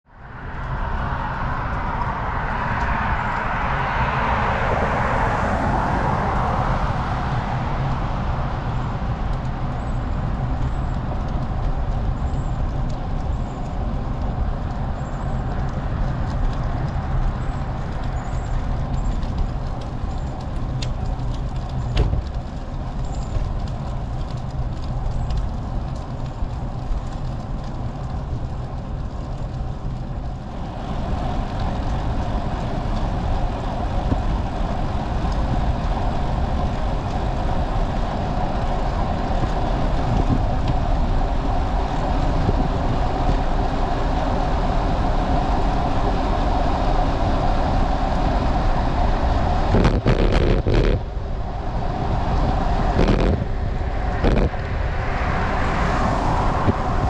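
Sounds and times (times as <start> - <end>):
passing road traffic: 0.0 - 22.5, 23.1 - 57.0
wind rush on microphone: 0.0 - 57.0.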